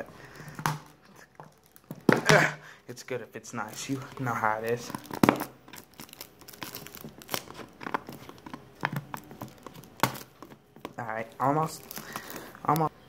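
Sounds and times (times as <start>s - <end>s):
plastic label crinkling and tearing: 0.8s - 2.5s, 3.6s - 12.9s.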